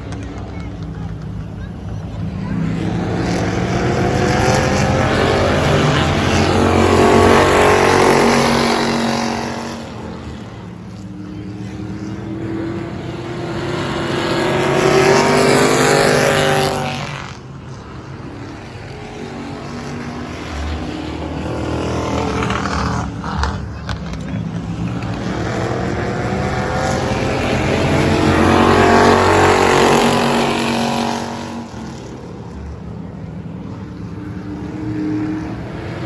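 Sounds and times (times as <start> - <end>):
race car engines passing: 0.0 - 36.0.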